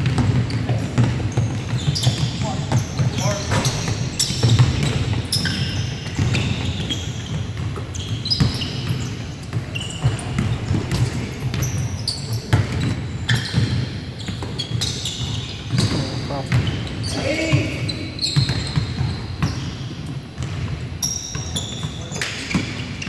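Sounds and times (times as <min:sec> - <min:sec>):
basketball bouncing: 0:00.0 - 0:23.0
sneakers squeaking on gym floor: 0:00.0 - 0:23.0.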